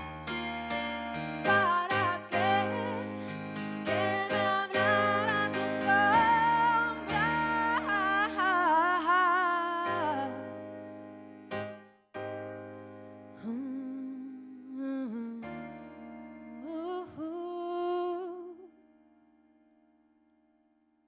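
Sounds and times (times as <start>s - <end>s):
slow tender keyboard music: 0.0s - 20.1s.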